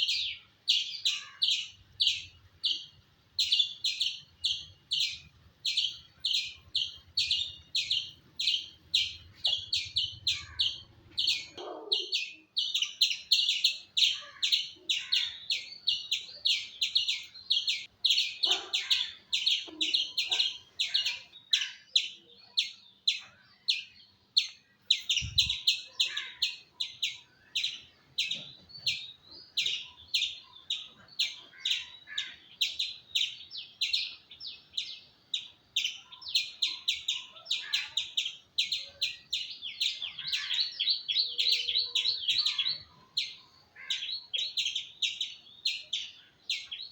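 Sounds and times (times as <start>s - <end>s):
squirrel chirping: 0.0s - 46.9s.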